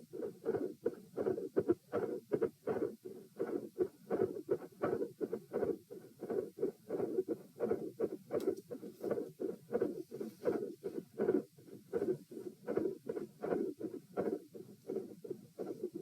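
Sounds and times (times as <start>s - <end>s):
heartbeat thumps: 0.0s - 16.0s.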